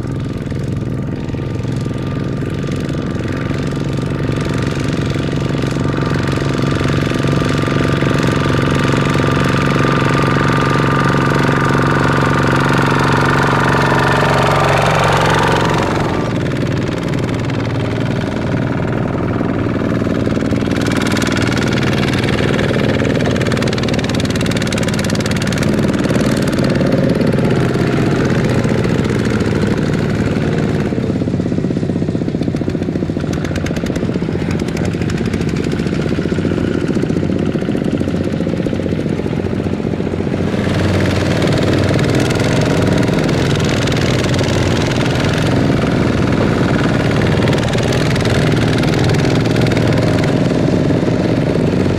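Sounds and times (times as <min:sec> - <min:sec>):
diesel tractor engine running: 0:00.0 - 0:51.9.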